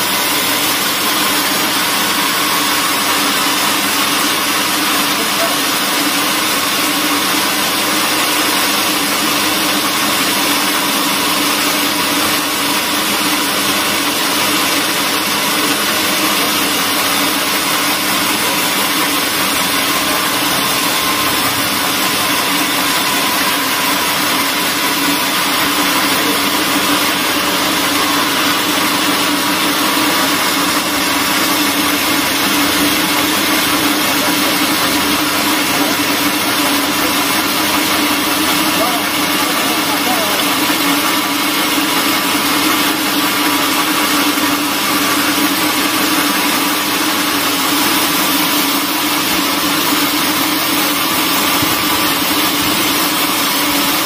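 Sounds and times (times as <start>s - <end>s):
band sawmill cutting wood: 0.0s - 54.0s.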